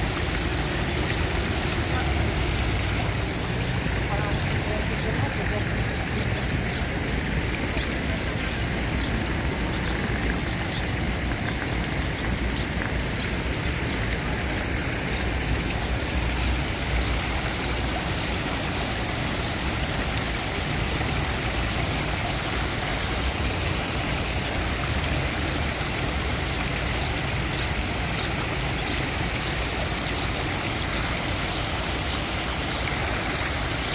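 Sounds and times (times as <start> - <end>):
city traffic: 0.0 - 33.9
fountain water splashing: 0.0 - 33.9.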